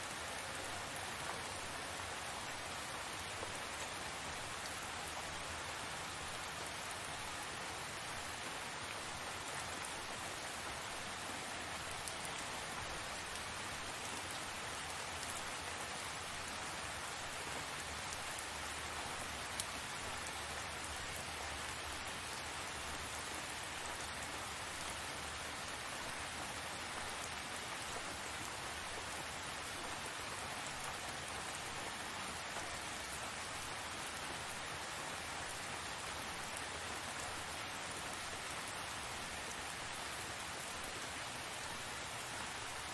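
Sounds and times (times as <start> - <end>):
rain pattering: 0.0 - 42.9.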